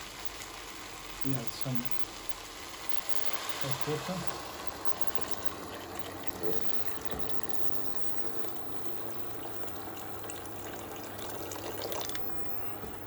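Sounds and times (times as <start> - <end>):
water pouring into a pan: 0.0 - 13.0.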